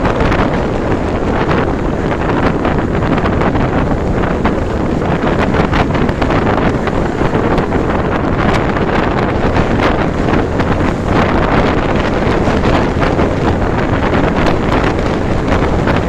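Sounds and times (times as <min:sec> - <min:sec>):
motorcycle rumble: 0:00.0 - 0:16.0
wind buffeting microphone: 0:00.0 - 0:16.0.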